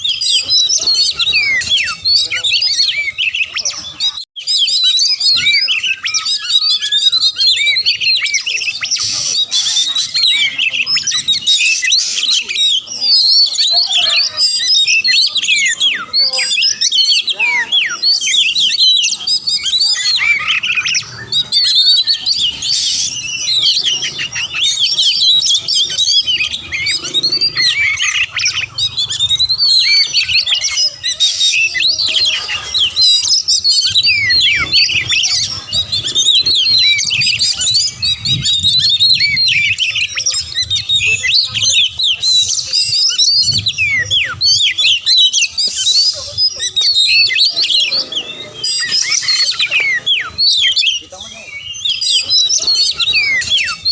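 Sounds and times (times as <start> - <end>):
songbird singing rapid chirps: 0.0 - 53.9.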